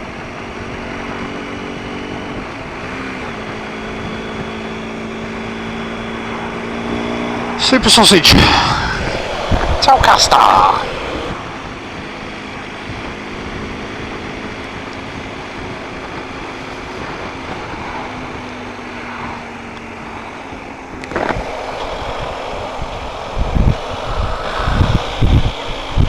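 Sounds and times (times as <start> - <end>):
faint motorcycle engine hum: 0.0 - 26.0
wind and road noise: 0.0 - 26.0.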